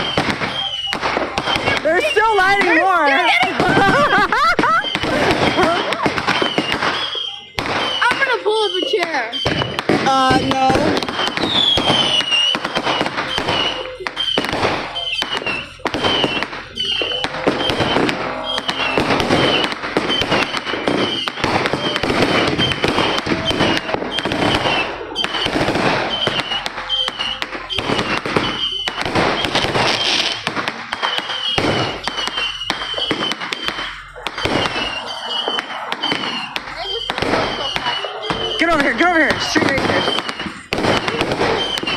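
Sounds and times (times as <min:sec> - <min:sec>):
fireworks and firecrackers banging: 0:00.0 - 0:41.9
high-pitched firework chirps: 0:00.0 - 0:41.9.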